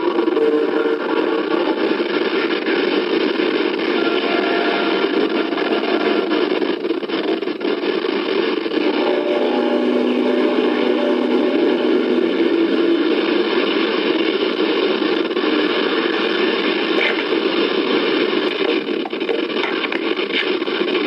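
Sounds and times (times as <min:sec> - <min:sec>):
loud droning rumble: 0:00.0 - 0:21.0.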